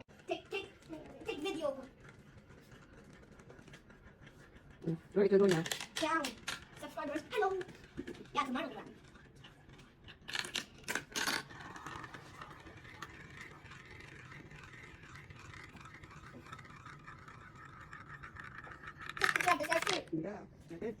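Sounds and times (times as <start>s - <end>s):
marble rolling through plastic tubes: 0.0s - 21.0s.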